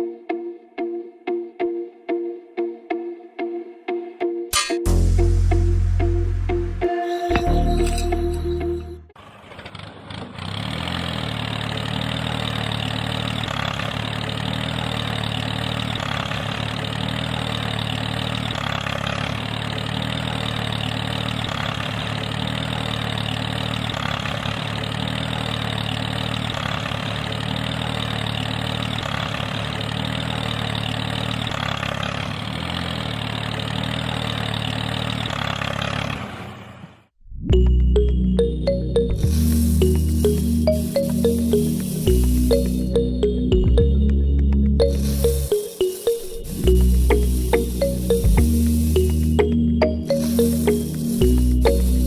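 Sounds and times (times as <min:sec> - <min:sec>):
small engine idling: 0:07.4 - 0:37.1, 0:38.4 - 0:43.9, 0:44.8 - 0:52.0.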